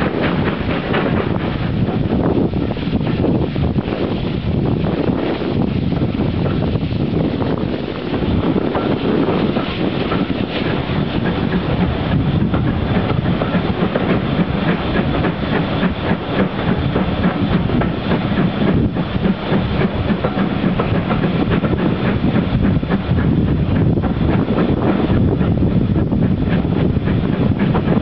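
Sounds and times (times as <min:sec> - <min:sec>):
train rumble: 0:00.0 - 0:28.0
wheels clicking over rail joints: 0:00.0 - 0:28.0.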